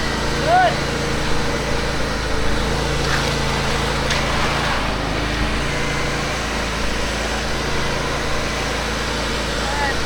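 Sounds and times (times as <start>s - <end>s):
small gas engine running: 0.0s - 10.0s.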